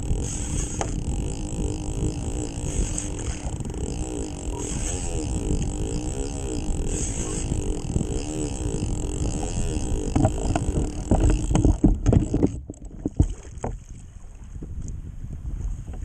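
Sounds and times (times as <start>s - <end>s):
water noise: 0.0s - 15.0s
wind: 0.0s - 16.0s.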